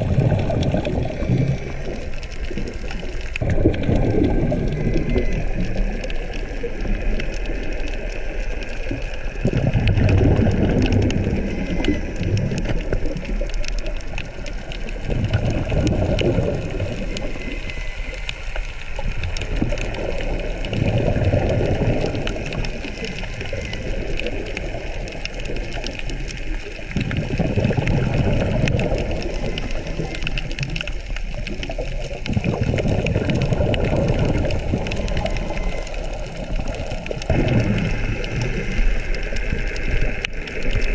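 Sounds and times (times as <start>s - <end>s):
faint crackling clicks: 0.0s - 40.9s
underwater exhaled bubbles: 0.0s - 40.9s.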